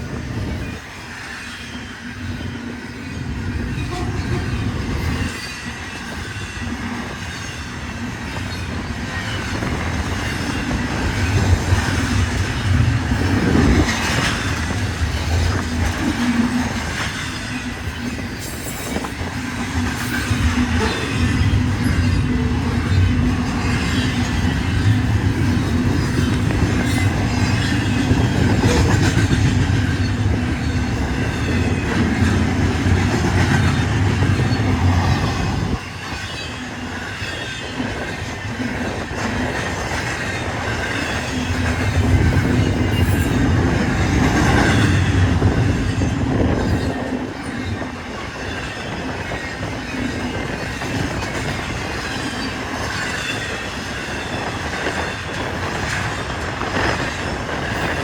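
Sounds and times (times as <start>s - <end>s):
diesel locomotive engine drone: 0.0s - 58.0s
train wheel clatter: 0.0s - 58.0s.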